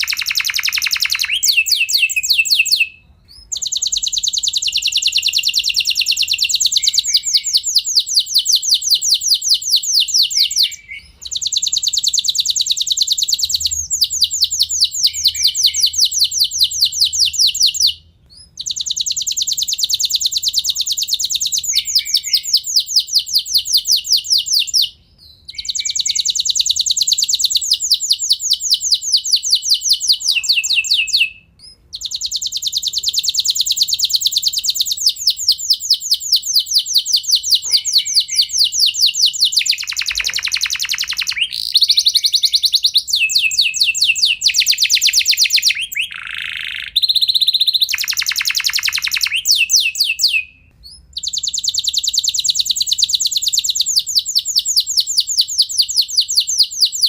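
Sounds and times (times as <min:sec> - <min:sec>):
canary singing rolling trills: 0:00.0 - 0:57.0.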